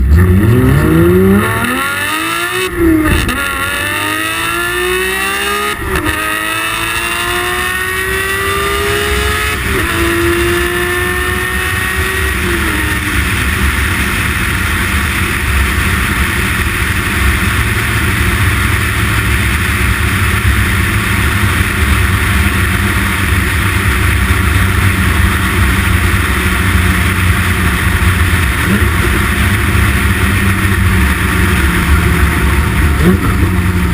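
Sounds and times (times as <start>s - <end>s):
car engine accelerating: 0.0s - 33.9s
road noise: 0.0s - 33.9s.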